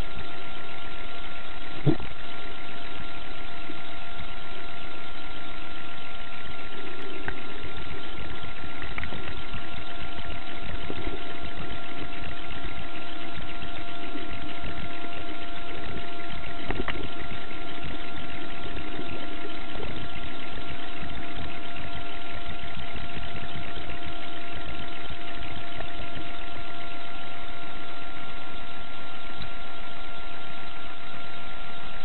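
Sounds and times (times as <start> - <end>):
engine drone with high whine: 0.0 - 32.0
faint ticks: 0.0 - 32.0.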